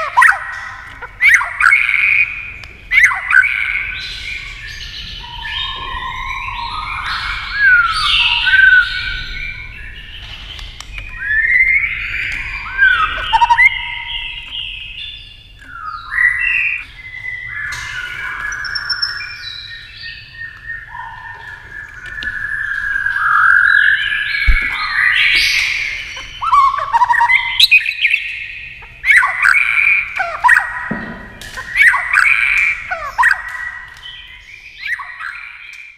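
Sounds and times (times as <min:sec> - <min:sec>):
bird singing whistled song: 0:00.0 - 0:35.9.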